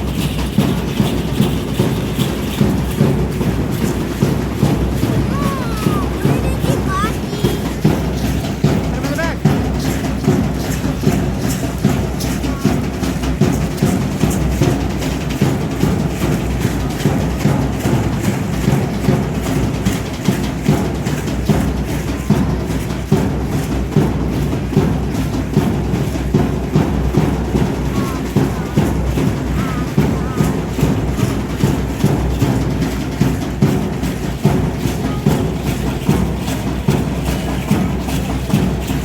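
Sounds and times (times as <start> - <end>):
drum beating steady rhythm: 0.0 - 39.0.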